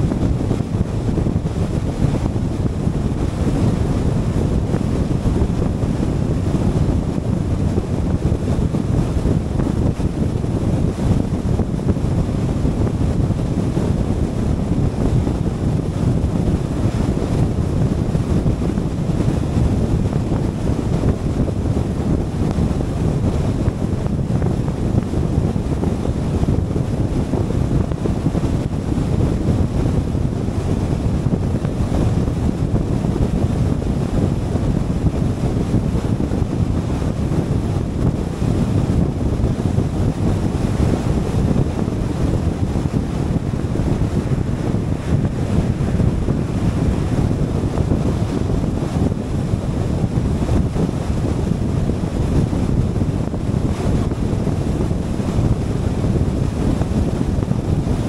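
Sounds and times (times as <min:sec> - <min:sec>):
wind and road rumble of car: 0:00.0 - 0:58.0.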